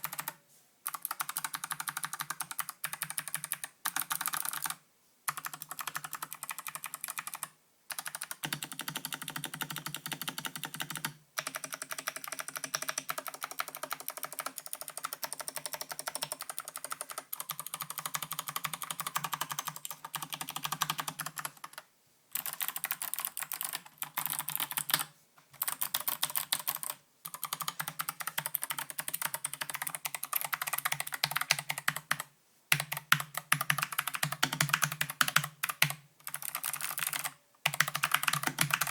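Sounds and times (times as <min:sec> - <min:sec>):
mechanical keyboard typing clicks: 0:00.0 - 0:21.8, 0:22.4 - 0:38.9.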